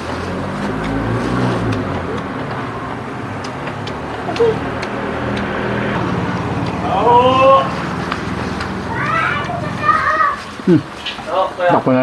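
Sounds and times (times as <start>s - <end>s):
vehicle engine running: 0.0s - 11.3s.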